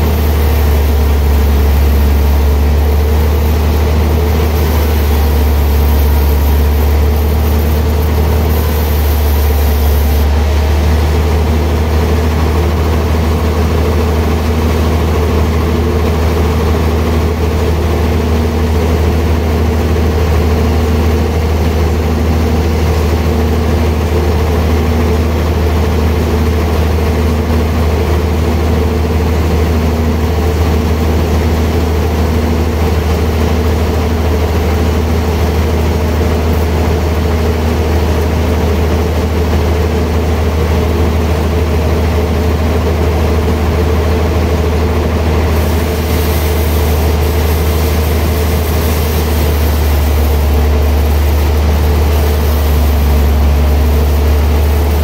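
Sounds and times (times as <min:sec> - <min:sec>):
band sawmill cutting log: 0:00.0 - 0:55.0.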